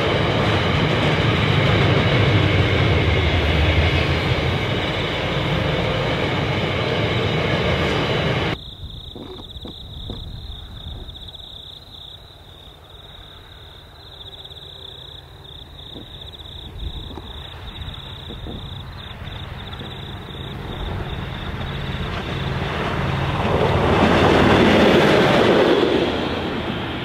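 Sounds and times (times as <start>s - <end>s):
train wheels rumbling on rails: 0.0s - 11.6s, 13.2s - 27.0s.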